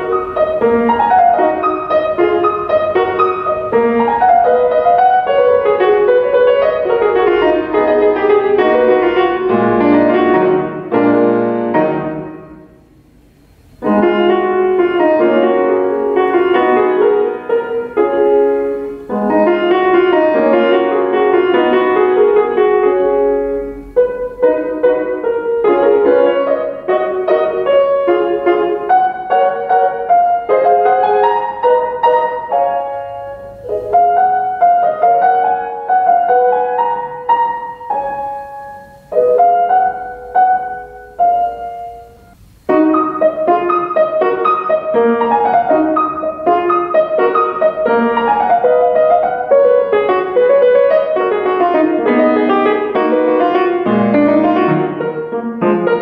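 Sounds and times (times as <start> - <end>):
solo piano classical piece: 0.0 - 56.0.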